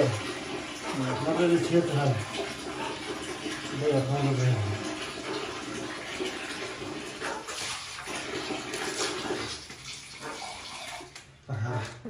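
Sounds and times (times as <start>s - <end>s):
water splashing: 0.0s - 11.2s.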